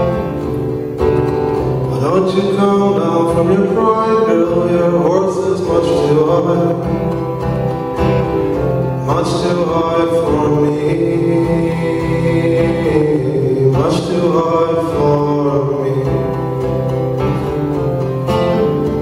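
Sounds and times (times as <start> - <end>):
acoustic guitar: 0.0 - 19.0
man singing folk song: 0.0 - 19.0.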